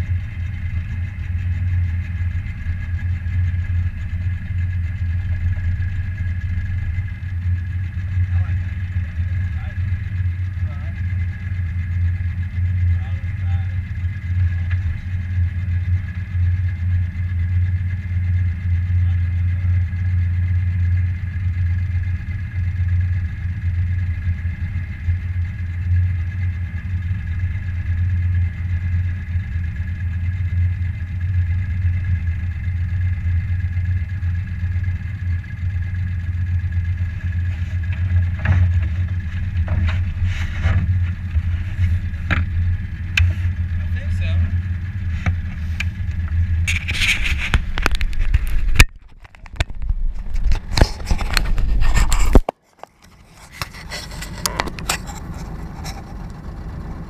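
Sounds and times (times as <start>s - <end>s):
boat motor droning: 0.0s - 57.0s.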